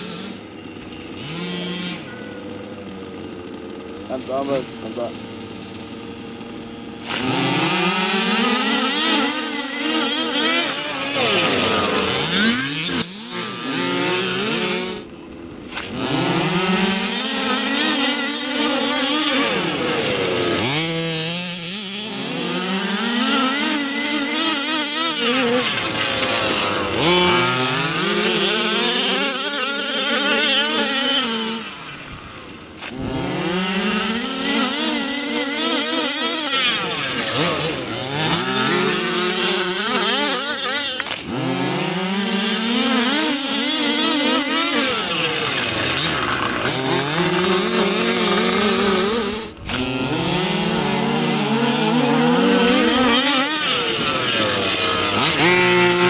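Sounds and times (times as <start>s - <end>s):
small two-stroke engines revving: 0.0s - 56.0s.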